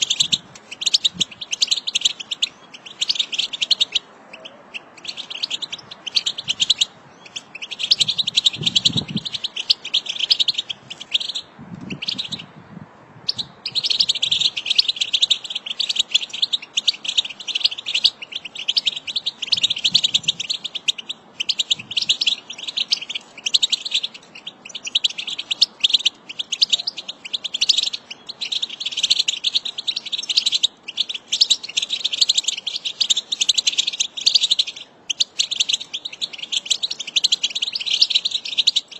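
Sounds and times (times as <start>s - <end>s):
goldfinch chattering twitter: 0.0s - 12.4s, 13.3s - 38.9s.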